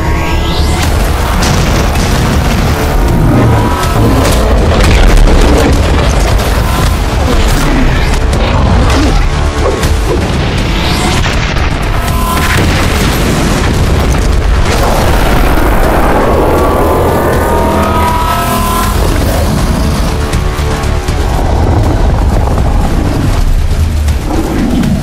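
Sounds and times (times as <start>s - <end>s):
booming impacts and explosions: 0.0s - 25.0s
loud action music: 0.0s - 25.0s.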